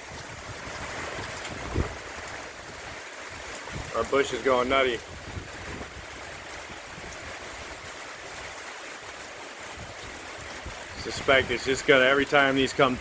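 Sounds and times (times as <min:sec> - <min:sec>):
storm wind and rain: 0:00.0 - 0:13.0.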